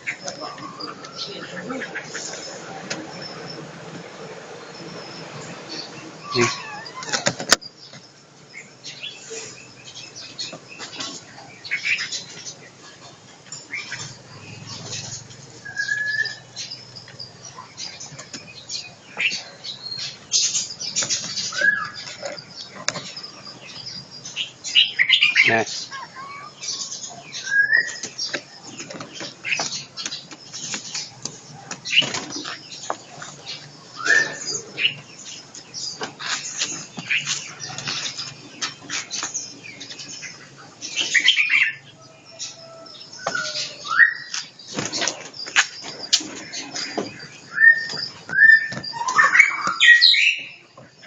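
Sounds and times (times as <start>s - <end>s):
birds fluttering and rustling: 0.0s - 51.0s.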